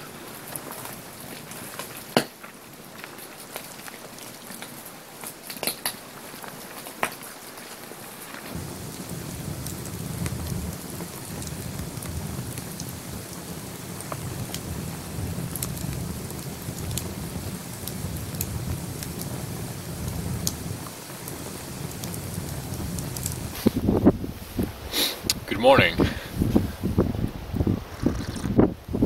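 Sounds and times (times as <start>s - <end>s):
fire crackles and pops: 0.0s - 29.0s
low rumble of flames: 0.0s - 29.0s.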